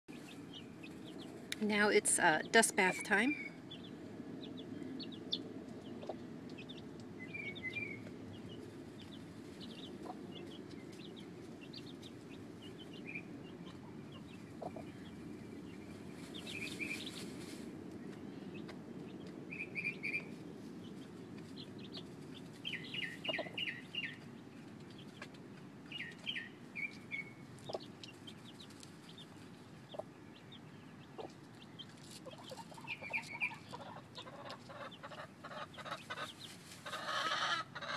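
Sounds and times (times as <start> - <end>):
chickens clucking: 0.1 - 7.1, 8.0 - 15.2, 20.9 - 26.4, 27.0 - 37.9
low background noise: 0.1 - 37.9.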